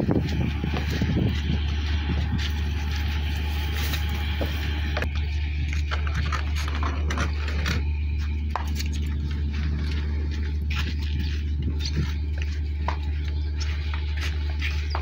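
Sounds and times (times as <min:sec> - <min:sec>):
ship engine humming: 0:00.0 - 0:15.0.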